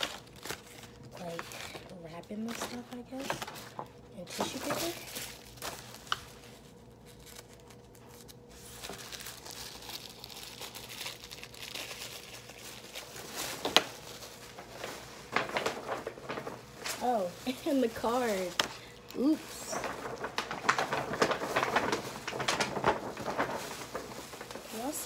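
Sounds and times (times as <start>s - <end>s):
sharp paper crackle: 0.0s - 25.0s
tissue paper crinkling: 0.0s - 25.0s.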